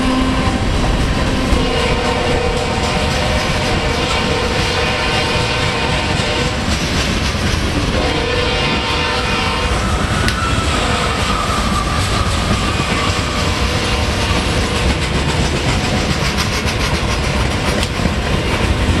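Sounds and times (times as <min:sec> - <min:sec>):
freight train rumbling past: 0:00.0 - 0:19.0
wheels clacking over rail joints: 0:00.0 - 0:19.0.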